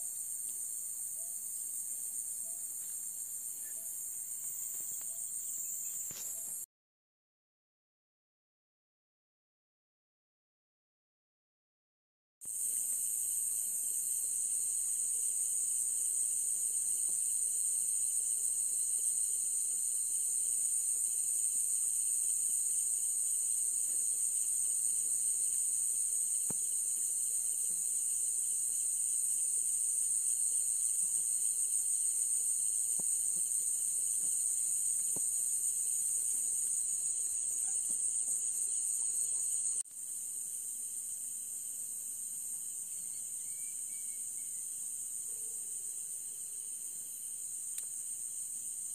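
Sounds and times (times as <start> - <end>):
crickets chirring: 0.0 - 6.6, 12.5 - 48.9
pulsing insect call: 0.0 - 6.6, 12.5 - 48.9.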